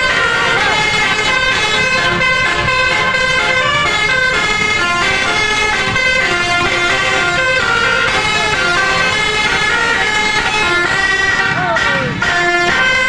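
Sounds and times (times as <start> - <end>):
multi-tone bus horn melody: 0.0 - 13.0.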